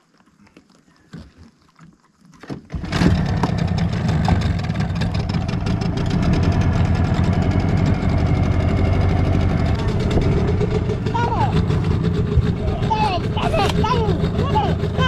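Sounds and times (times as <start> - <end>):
outboard motor running: 2.4 - 15.0.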